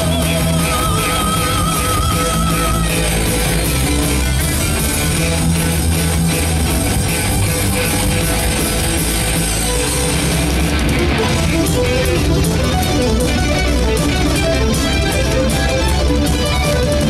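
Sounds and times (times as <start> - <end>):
heavy metal band playing live: 0.0 - 17.0.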